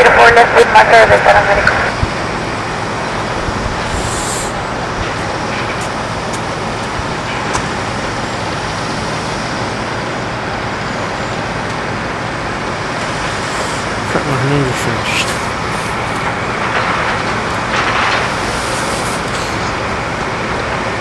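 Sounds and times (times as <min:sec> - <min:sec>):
distant engines rushing: 0:00.0 - 0:21.0.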